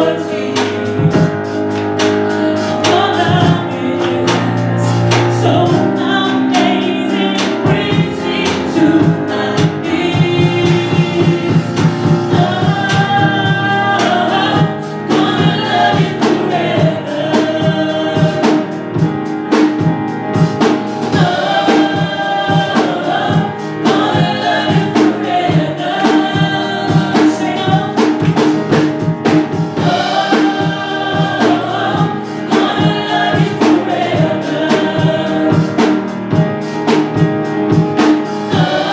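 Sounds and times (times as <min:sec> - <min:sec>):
band playing: 0:00.0 - 0:38.9
drum kit beat: 0:00.0 - 0:38.9
gospel choir singing: 0:00.0 - 0:38.9.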